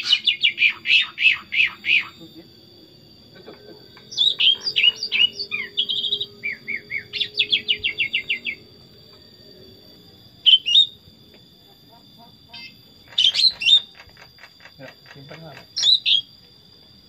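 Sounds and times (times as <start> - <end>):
bulbul singing: 0.0 - 16.4.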